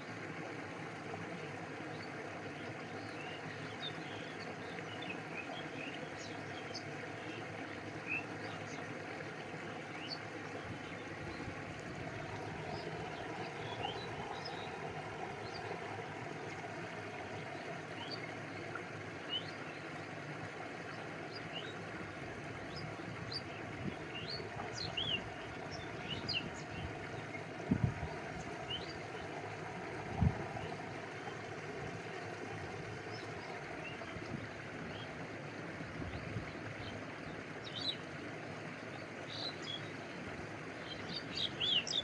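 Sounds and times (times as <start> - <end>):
water lapping: 0.0 - 38.5
stream flowing: 0.0 - 42.0.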